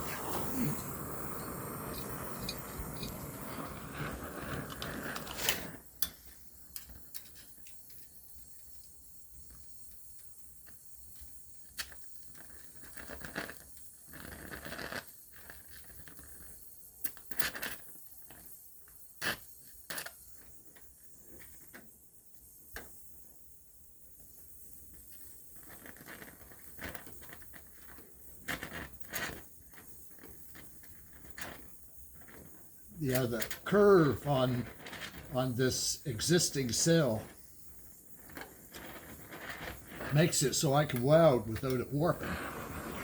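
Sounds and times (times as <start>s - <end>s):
welding crackle: 0.0s - 21.9s, 24.1s - 43.0s.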